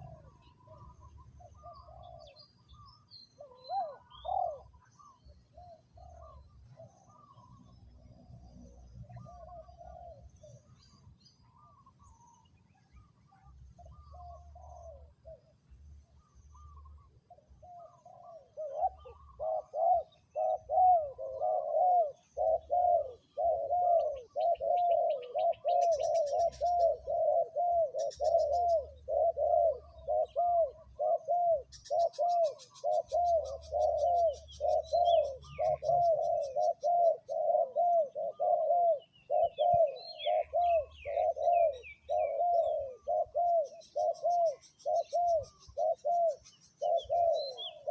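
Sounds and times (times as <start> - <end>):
dove cooing: 0.0 - 47.9
small birds chirping: 0.0 - 47.9.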